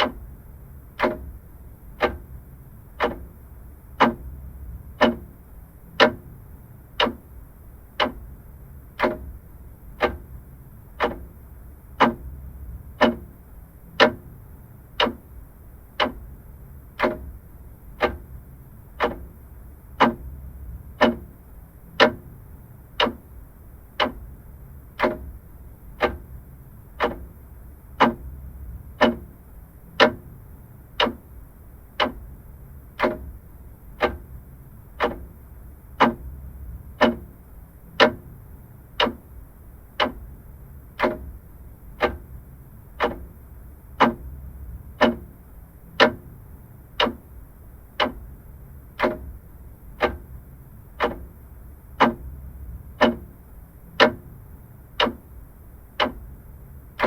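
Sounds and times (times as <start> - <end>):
faint low rumble: 0.0 - 57.0
mechanical clock ticking: 0.0 - 57.0.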